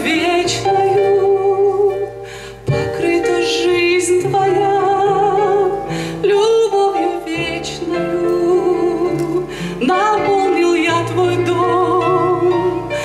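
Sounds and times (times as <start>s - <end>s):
instrumental accompaniment: 0.0s - 13.0s
woman singing with vibrato: 0.0s - 13.0s.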